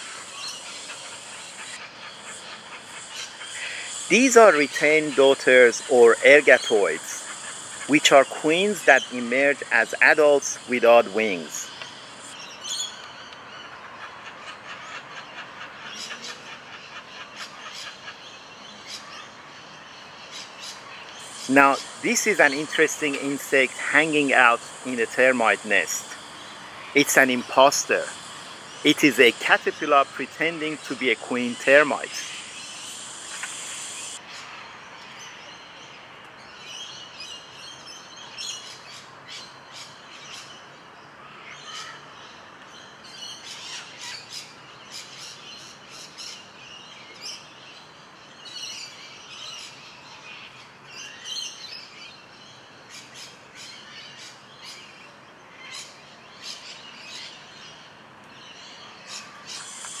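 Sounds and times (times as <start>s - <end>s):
birds chirping: 0.0s - 60.0s
faint outdoor background hiss: 0.0s - 60.0s.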